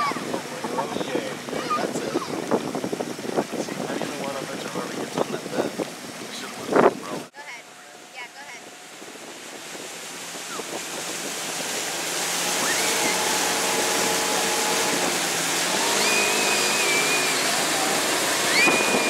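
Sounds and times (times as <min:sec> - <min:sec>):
motorboat: 0:00.0 - 0:19.0
rushing water: 0:00.0 - 0:19.0
wind: 0:00.0 - 0:19.0.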